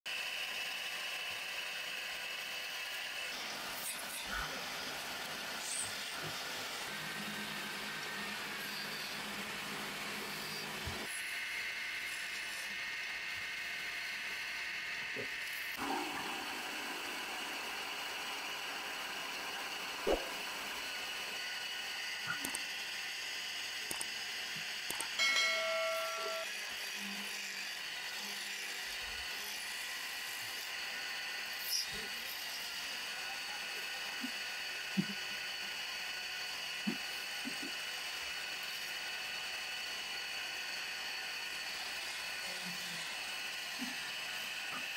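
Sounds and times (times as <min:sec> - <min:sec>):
chisel cutting spinning wood: 0:00.1 - 0:44.9
wood lathe running: 0:00.1 - 0:44.9.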